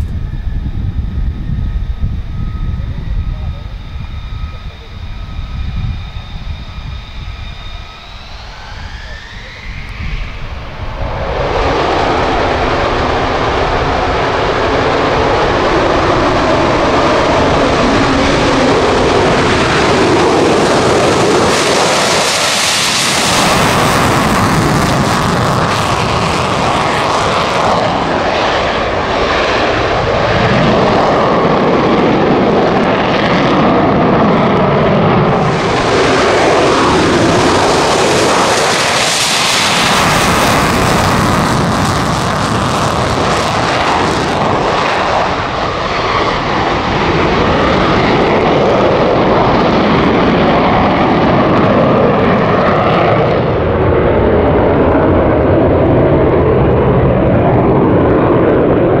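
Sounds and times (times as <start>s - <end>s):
fighter jets taking off: 0.0s - 59.0s.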